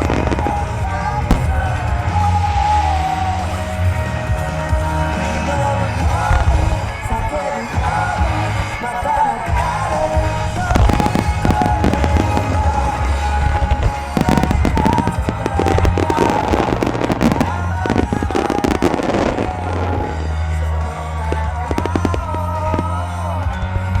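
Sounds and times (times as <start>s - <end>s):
fireworks bursting and crackling: 0.0s - 24.0s
music with heavy bass: 0.0s - 24.0s.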